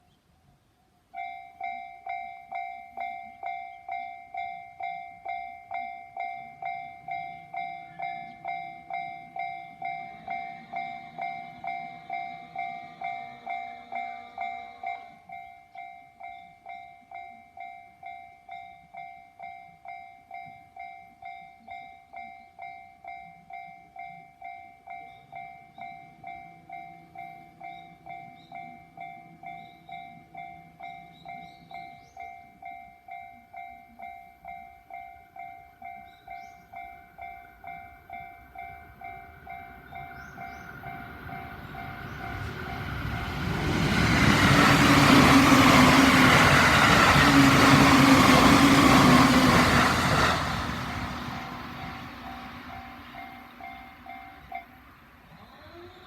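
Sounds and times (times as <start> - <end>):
low train rumble: 0.0 - 56.0
train passing: 1.0 - 56.0
level-crossing warning bell: 1.1 - 55.8.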